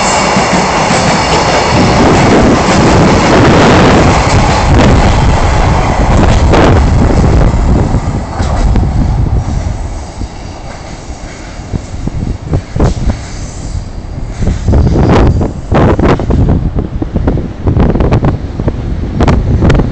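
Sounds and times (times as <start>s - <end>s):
train wheels rolling on rails: 0.0s - 19.9s.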